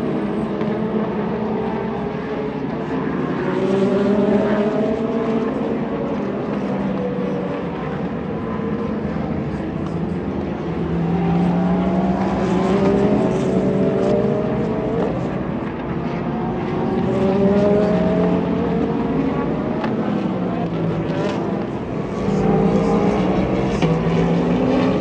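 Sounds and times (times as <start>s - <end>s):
racing car engines at high revs: 0.0s - 25.0s.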